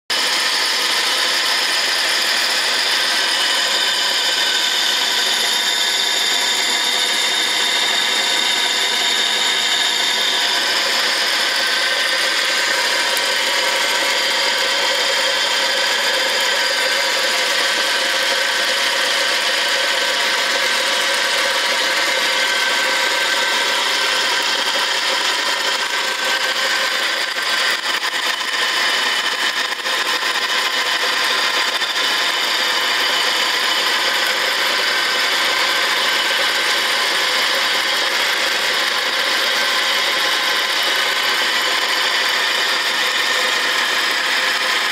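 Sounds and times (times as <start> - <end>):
metal lathe running: 0.1 - 44.9.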